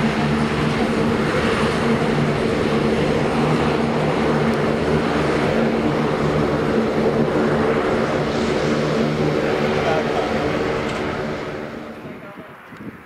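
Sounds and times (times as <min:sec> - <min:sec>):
turboprop plane taxiing: 0:00.0 - 0:13.0.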